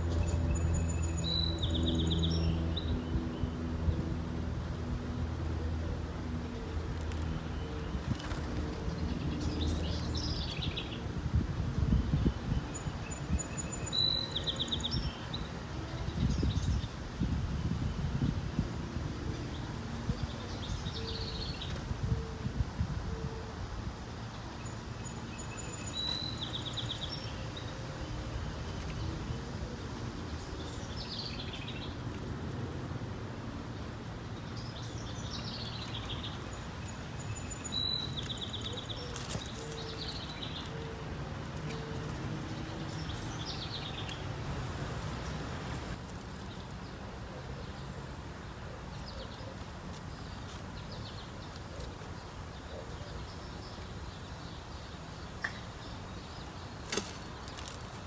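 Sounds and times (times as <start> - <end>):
birds chirping: 0.0 - 17.2, 19.3 - 58.0.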